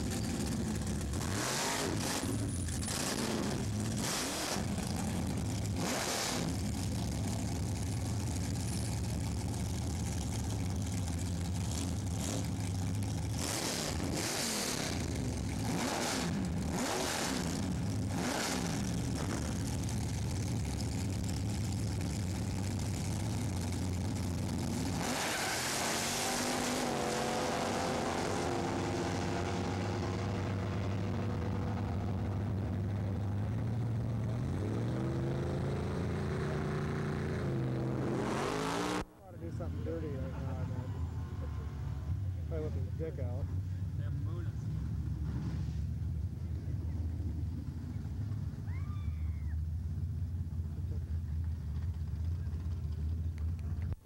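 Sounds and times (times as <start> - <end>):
drag car engine revving: 0.0 - 48.7
drag car accelerating away: 0.0 - 54.0.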